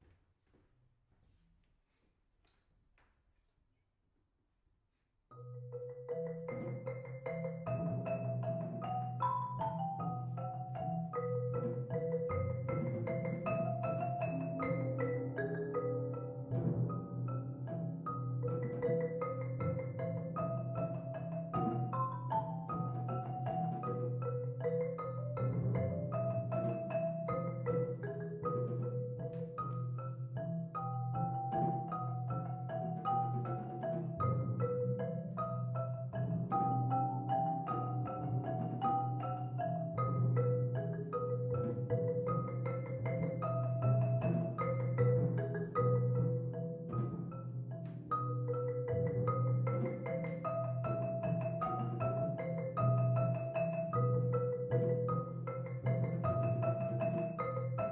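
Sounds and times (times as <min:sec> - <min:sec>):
marimba mallet notes: 0:05.3 - 0:57.9.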